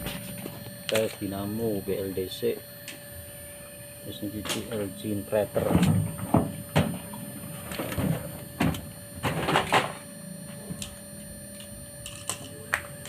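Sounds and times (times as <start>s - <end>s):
washing machine motor whining: 0.0s - 13.0s.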